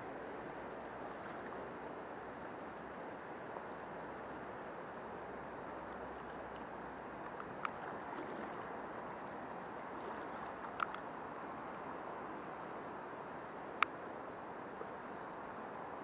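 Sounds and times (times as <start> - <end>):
river running over stones: 0.2 - 16.0.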